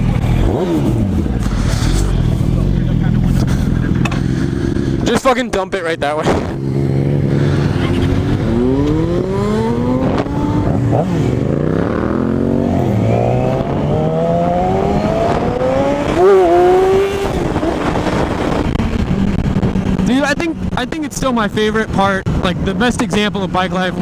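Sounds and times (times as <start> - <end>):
motorcycle engine accelerating: 0.0 - 5.5, 6.2 - 20.8.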